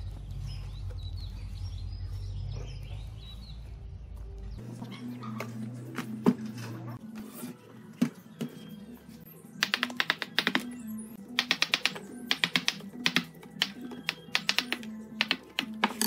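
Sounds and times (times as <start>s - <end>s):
background music: 2.6s - 16.0s.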